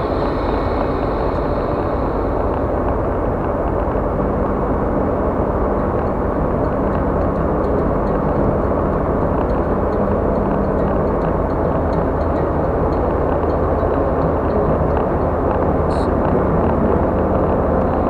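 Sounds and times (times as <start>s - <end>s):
car road noise from inside: 0.0s - 18.0s.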